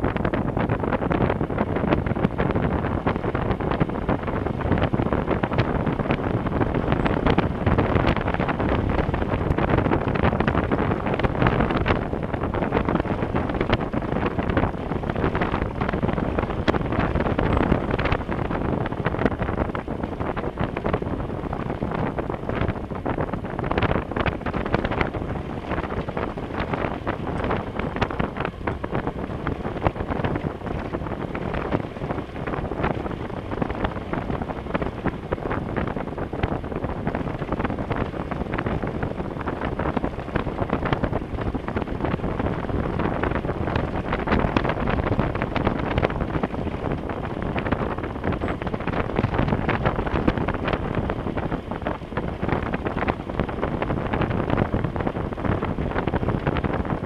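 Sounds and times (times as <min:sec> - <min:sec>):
motorcycle tyres rumbling: 0:00.0 - 0:57.0
wind noise on microphone: 0:00.0 - 0:57.0
gravel ticking: 0:00.1 - 0:57.0.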